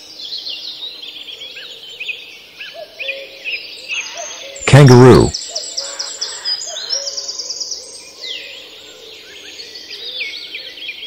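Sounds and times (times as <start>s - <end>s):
birds chirping and trilling: 0.1s - 4.6s, 5.3s - 11.0s.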